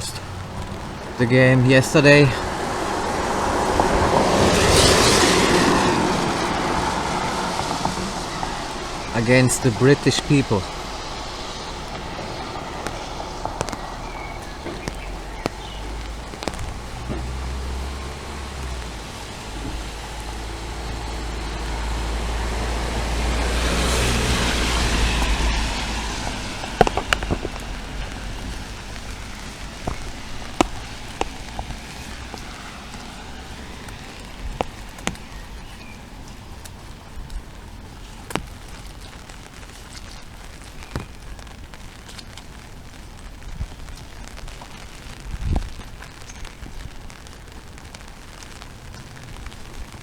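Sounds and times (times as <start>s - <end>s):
car tyres hissing on wet road: 0.0s - 50.0s
large raindrops tapping: 0.0s - 50.0s
steady rain: 0.0s - 50.0s.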